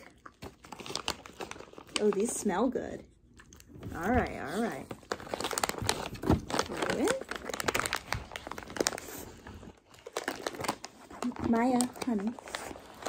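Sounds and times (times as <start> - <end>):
plastic bag crinkling: 0.0 - 2.8, 3.9 - 13.0.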